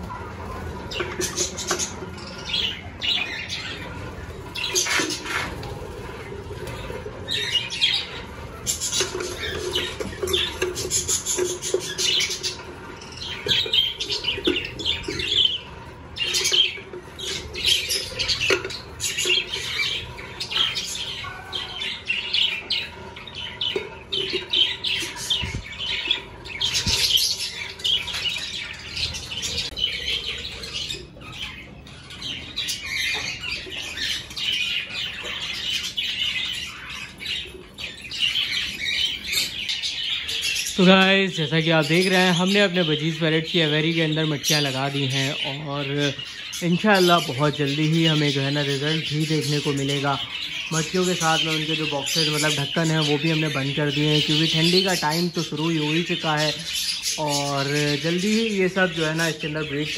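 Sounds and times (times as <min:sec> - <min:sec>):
budgerigars chirping: 0:00.1 - 0:59.9.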